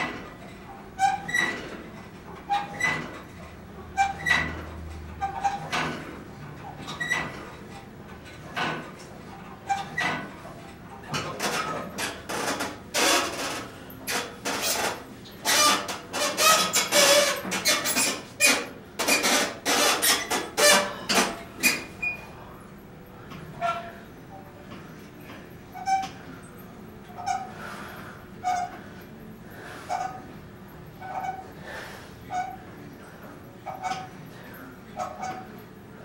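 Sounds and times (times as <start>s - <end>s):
workout bench creaking and squeaking: 0.0s - 22.5s, 23.2s - 36.0s.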